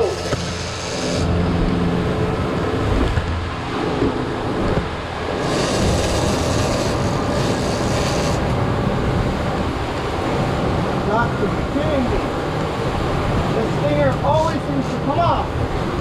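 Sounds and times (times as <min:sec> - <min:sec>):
outboard motors humming: 0:00.0 - 0:16.0
rushing wake and wind: 0:00.0 - 0:16.0.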